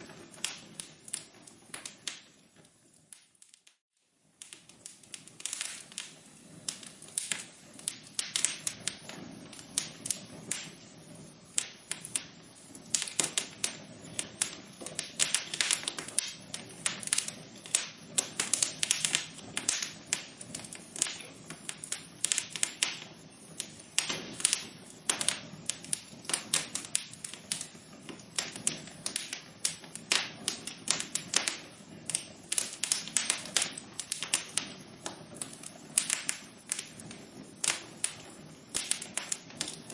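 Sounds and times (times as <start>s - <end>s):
low rumble of burning logs: 0.0s - 39.9s
wood fire crackling: 0.0s - 39.9s.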